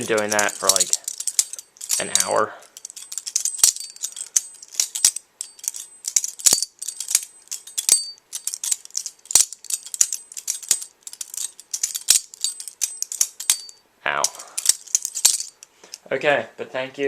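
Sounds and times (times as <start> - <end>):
thin metallic ring: 0.0 - 15.7.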